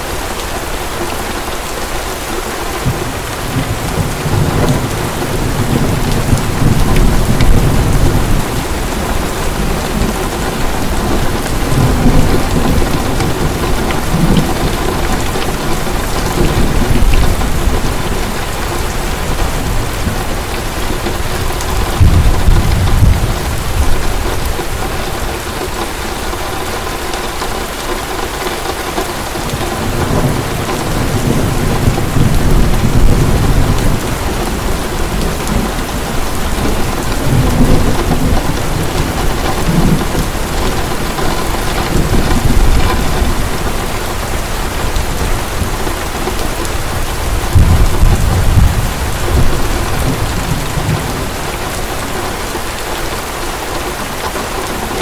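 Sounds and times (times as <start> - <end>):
heavy rain falling: 0.0 - 55.0
rolling thunder: 2.8 - 25.4, 29.2 - 52.8.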